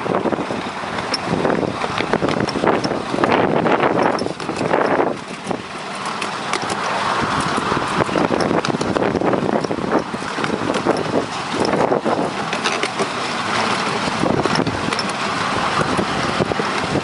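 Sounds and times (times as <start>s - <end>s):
wheels clicking on track: 0.0s - 17.0s
wind on microphone: 0.0s - 17.0s
miniature train rolling: 0.9s - 17.0s.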